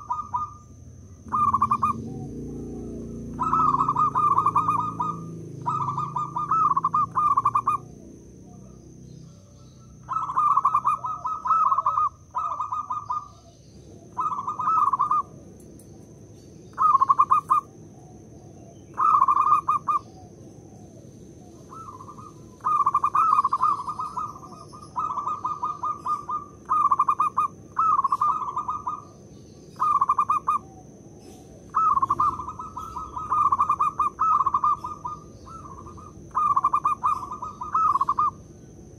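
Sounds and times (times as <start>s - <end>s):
dove cooing: 0.0s - 16.0s, 16.7s - 38.9s.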